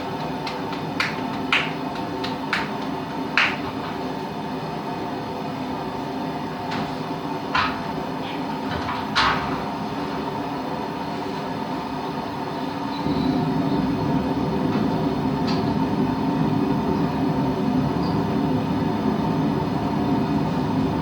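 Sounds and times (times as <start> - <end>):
forge blower hum: 0.0 - 21.0.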